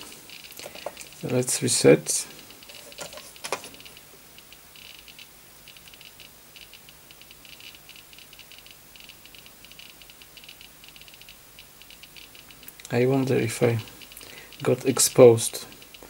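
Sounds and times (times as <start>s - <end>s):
geiger counter clicking fast: 2.2s - 16.0s.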